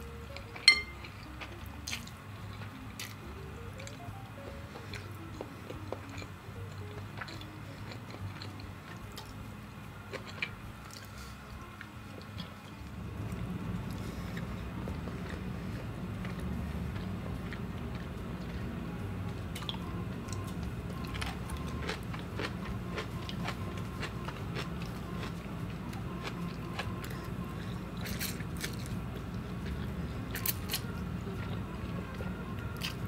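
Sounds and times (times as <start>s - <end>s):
close chewing and crunching: 0.0s - 33.0s
furnace humming: 0.0s - 33.0s.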